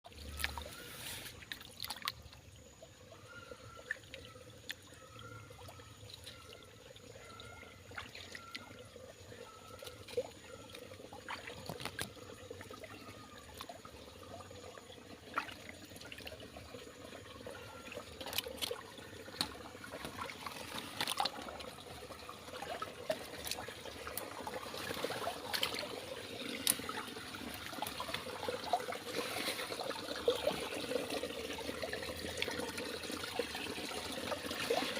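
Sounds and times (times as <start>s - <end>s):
stream trickling: 0.0s - 34.9s.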